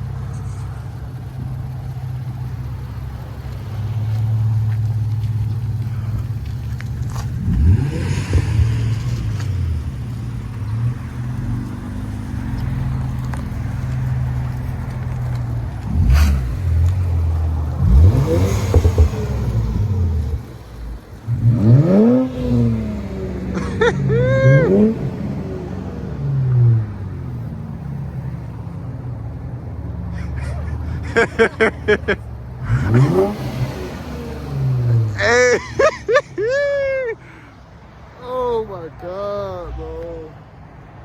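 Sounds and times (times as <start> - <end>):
car engine exhaust revving: 0.0 - 36.1.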